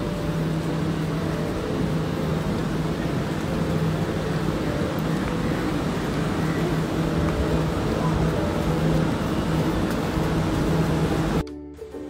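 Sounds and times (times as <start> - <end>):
train humming and rumbling: 0.0 - 12.0.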